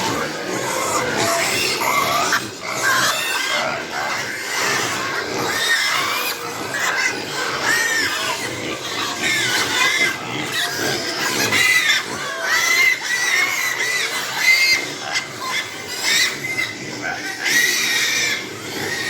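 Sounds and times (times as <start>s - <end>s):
piglets squealing: 0.0s - 19.0s.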